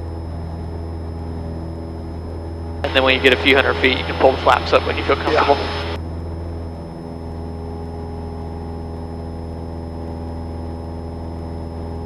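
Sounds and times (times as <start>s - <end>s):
aircraft piston engine and propeller drone: 0.0s - 12.0s.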